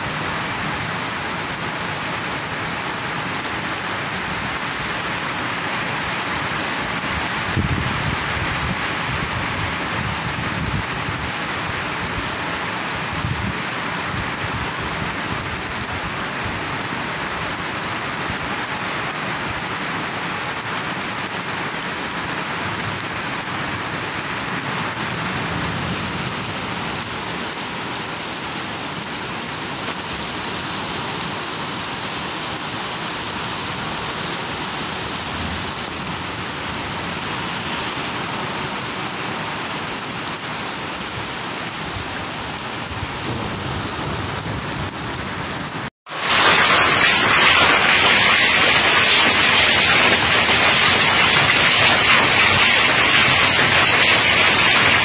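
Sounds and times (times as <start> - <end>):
heavy rain on grass and trees: 0.0 - 55.0.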